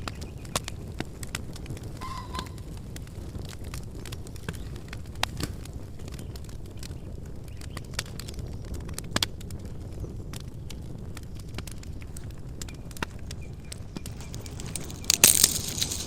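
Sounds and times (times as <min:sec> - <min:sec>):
wood popping and snapping: 0:00.0 - 0:07.0, 0:07.6 - 0:16.0
campfire crackling: 0:00.0 - 0:16.0.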